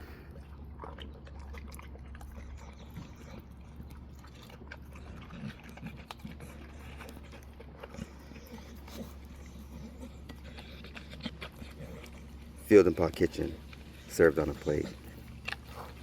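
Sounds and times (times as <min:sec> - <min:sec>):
dog chewing food: 0:00.0 - 0:16.0.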